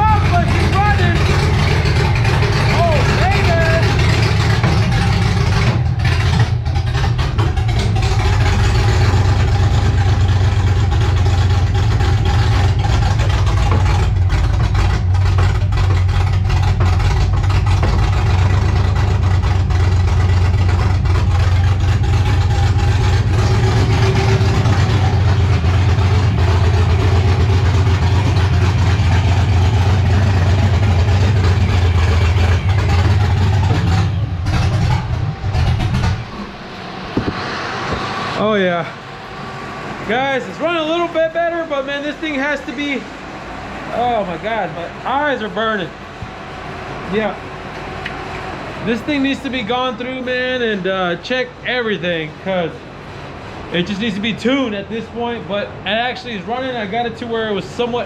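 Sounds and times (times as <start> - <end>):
car engine idling loudly: 0.0 - 58.0.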